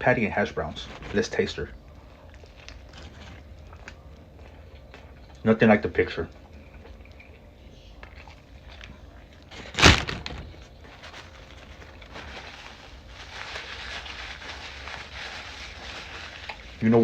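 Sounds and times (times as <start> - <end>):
handling and eating noises: 0.0 - 17.0.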